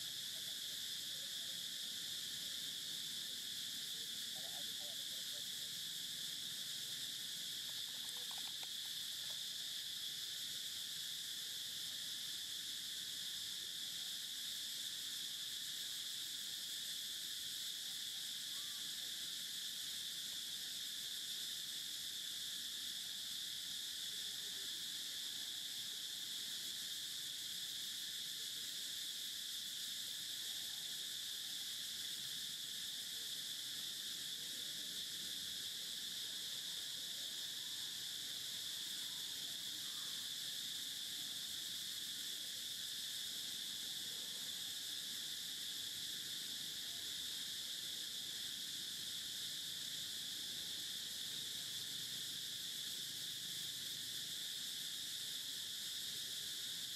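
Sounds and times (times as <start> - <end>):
insect chorus drone: 0.0 - 56.9.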